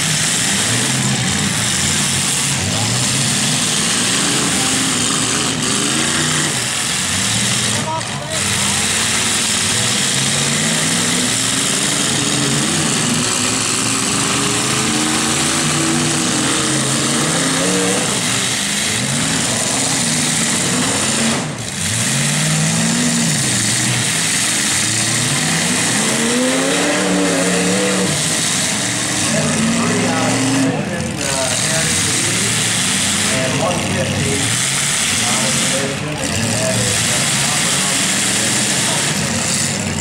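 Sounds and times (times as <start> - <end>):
constant loud din: 0.0 - 40.0
pickup truck engines revving: 0.0 - 40.0.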